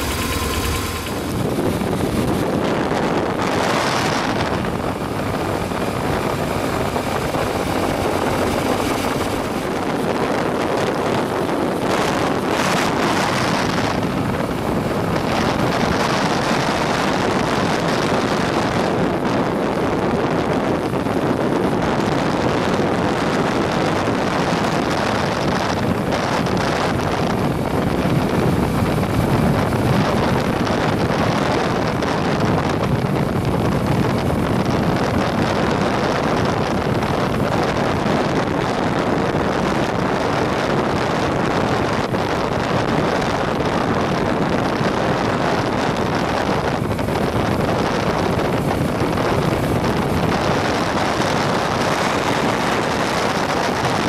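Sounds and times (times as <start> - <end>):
vehicle running: 0.0 - 54.0
wind buffeting microphone: 0.0 - 54.0.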